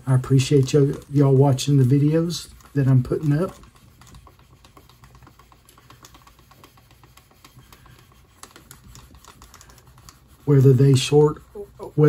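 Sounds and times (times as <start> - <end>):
burnisher rubbing leather: 0.0 - 12.0.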